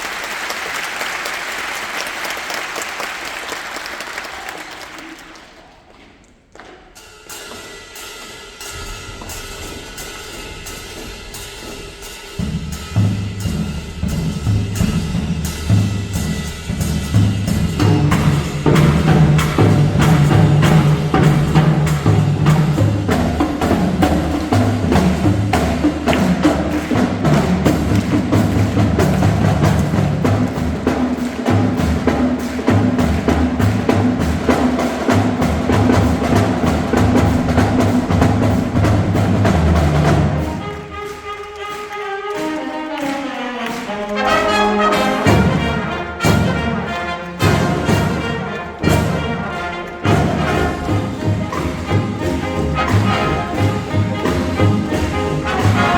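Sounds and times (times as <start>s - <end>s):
marching band music: 0.0s - 55.9s
clicking percussion beat: 4.3s - 55.9s.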